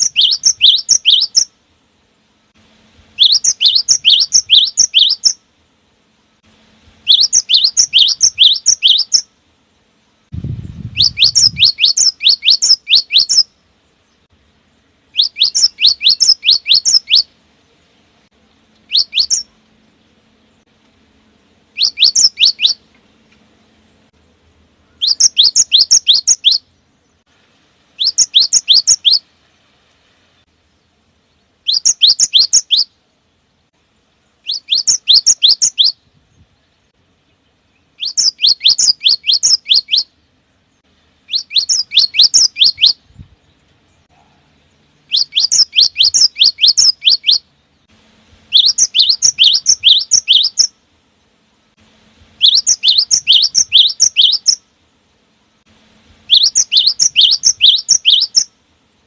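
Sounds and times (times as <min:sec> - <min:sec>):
bird singing: 0:00.0 - 0:02.0, 0:03.2 - 0:05.5, 0:07.0 - 0:09.4, 0:10.6 - 0:27.3, 0:27.9 - 0:29.4, 0:30.0 - 0:51.4, 0:52.4 - 0:55.0, 0:56.2 - 0:58.6.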